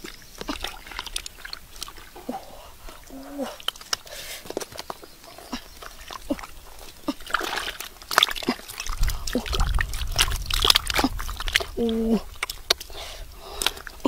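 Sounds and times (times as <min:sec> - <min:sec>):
hands squelching through wet mud: 0:00.0 - 0:14.0.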